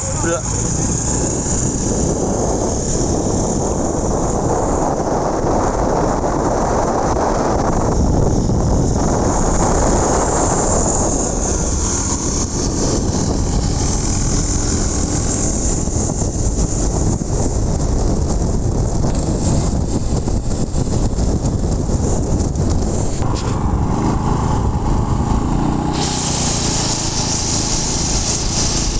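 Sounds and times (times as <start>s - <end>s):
small engine running: 0.0s - 28.9s
wind rumble on microphone: 0.0s - 28.9s.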